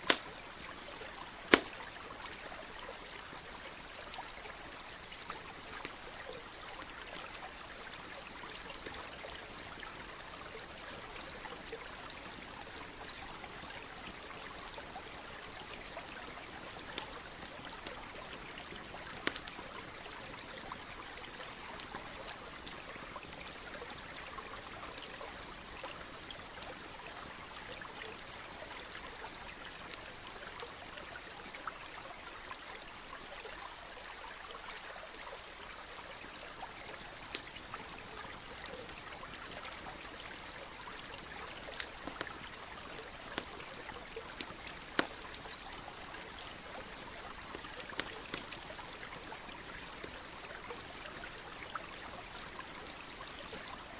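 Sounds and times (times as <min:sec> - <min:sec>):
campfire crackling and popping: 0:00.0 - 0:33.8, 0:35.0 - 0:53.9
stream trickling: 0:00.0 - 0:53.9.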